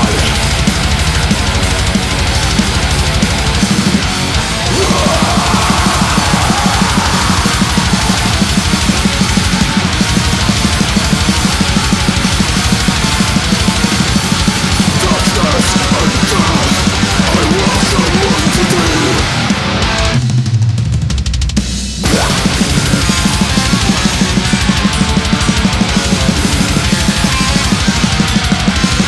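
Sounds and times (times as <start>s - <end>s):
distorted electric guitars: 0.0s - 21.2s, 22.0s - 29.0s
rapid metal drumming: 0.0s - 29.0s.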